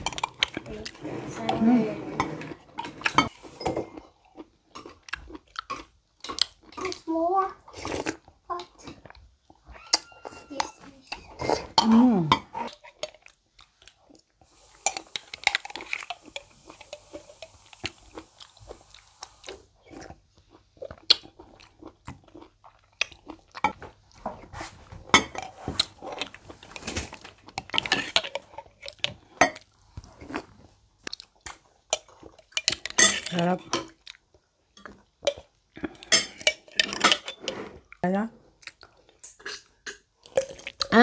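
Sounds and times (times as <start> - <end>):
chewing and crunching ice: 3.9 - 24.3, 25.4 - 41.0.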